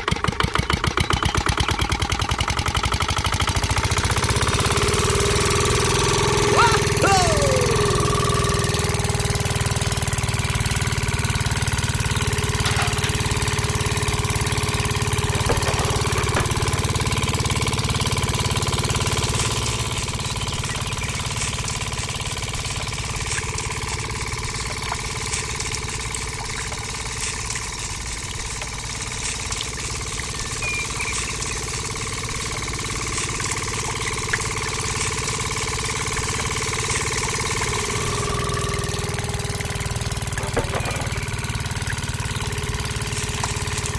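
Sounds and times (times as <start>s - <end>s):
small motor humming: 2.4s - 43.9s.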